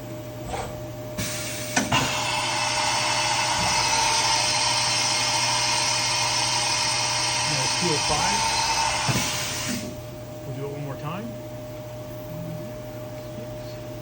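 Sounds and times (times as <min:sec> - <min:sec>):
hissing whir with faint whine: 0:00.0 - 0:14.0.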